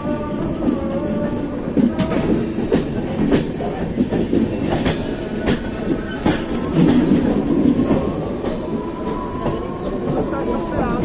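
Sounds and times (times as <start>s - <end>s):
train wheels rumbling: 0.0s - 11.0s
clacks from rail joints: 0.3s - 11.0s.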